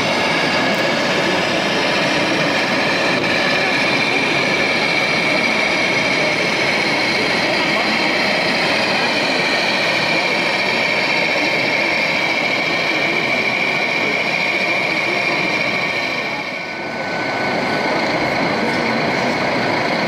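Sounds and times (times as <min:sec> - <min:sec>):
busy exhibition hall din: 0:00.0 - 0:20.0
model truck engine drone: 0:00.0 - 0:20.0.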